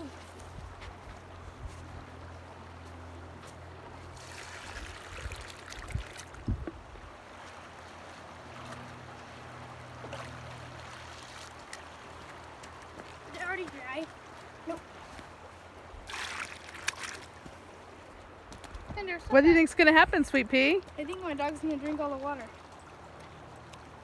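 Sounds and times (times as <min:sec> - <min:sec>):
shallow river running: 0:00.0 - 0:24.0
splashing of wading: 0:00.0 - 0:24.0.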